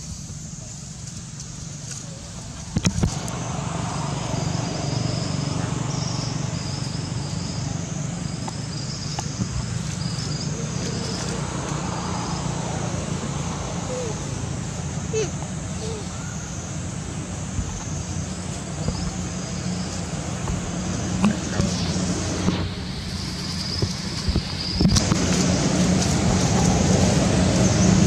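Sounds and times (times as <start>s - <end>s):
insect trills: 0.0s - 28.0s
steady low rumble: 0.0s - 28.0s.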